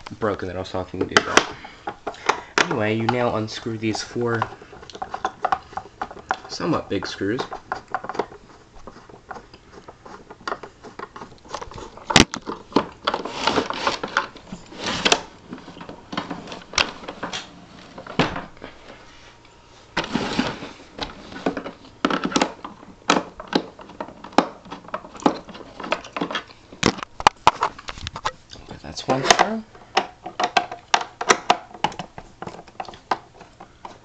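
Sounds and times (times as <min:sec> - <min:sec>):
plastic parts knocking: 0:00.0 - 0:18.8, 0:20.0 - 0:28.3, 0:29.0 - 0:34.0.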